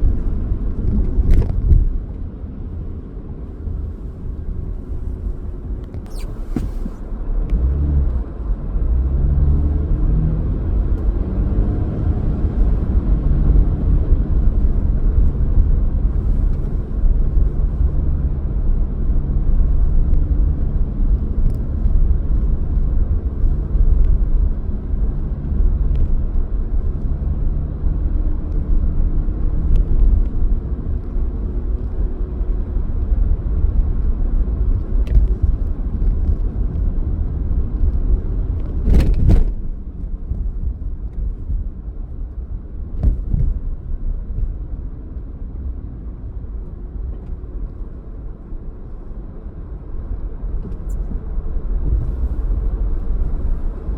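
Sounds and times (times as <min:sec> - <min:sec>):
car engine hum and road rumble: 0:00.0 - 0:53.9.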